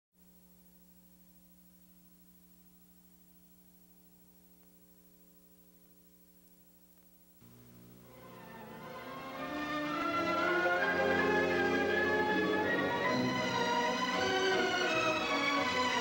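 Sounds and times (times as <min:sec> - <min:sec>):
faint electrical hum: 0:00.2 - 0:16.0.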